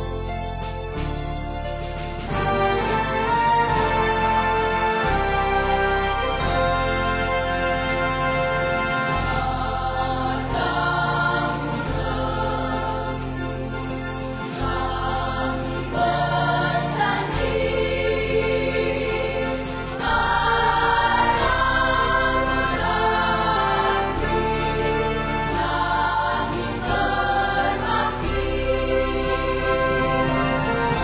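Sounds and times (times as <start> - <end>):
choral singing: 2.3 - 31.0.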